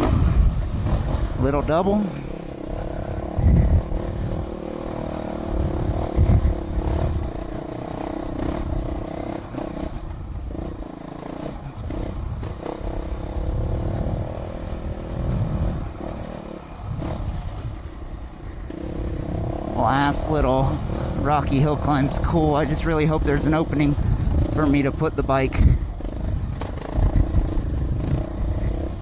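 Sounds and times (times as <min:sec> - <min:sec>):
motorcycle engine at low revs: 0:00.0 - 0:29.0.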